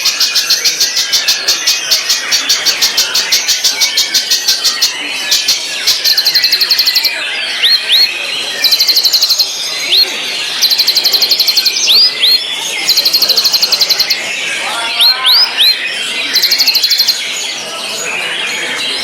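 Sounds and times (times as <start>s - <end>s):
bird rapid repeated notes: 0.0s - 17.5s.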